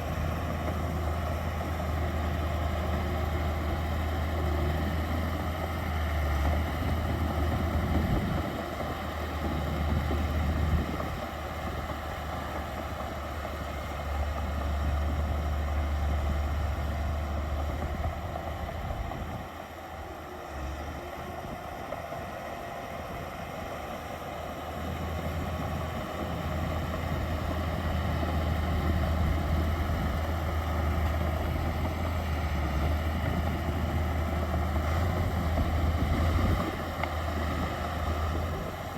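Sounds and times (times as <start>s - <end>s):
heavy diesel machinery rumbling: 0.0s - 38.9s.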